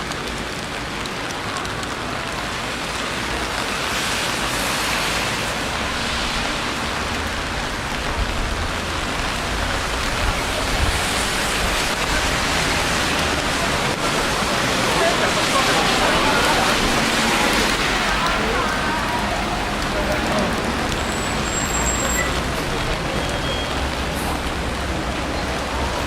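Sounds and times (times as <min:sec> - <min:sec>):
rain falling on street: 0:00.0 - 0:26.0.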